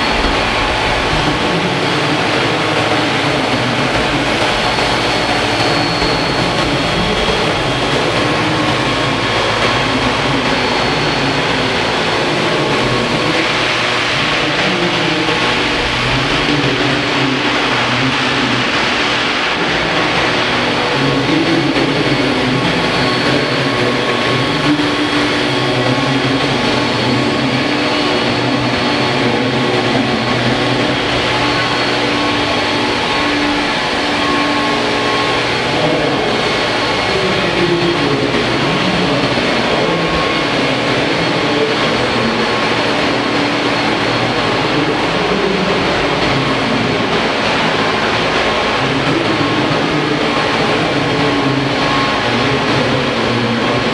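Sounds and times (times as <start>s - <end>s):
model helicopter rotors whirring: 0.0s - 53.9s.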